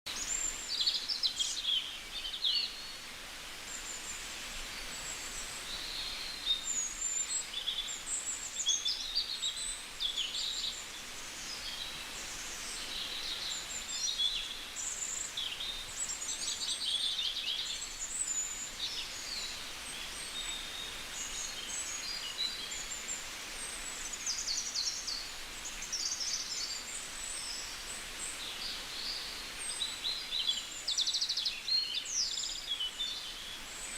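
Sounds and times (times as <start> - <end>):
steady background hiss: 0.1 - 33.9.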